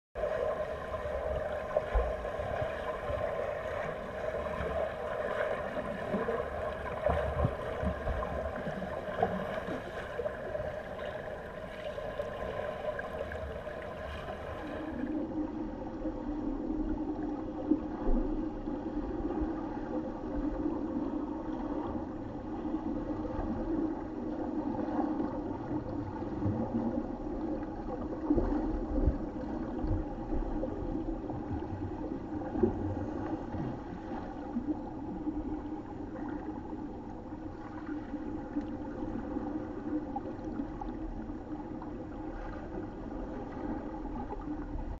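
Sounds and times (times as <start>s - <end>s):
underwater churning water and bubbles: 0.2s - 44.9s.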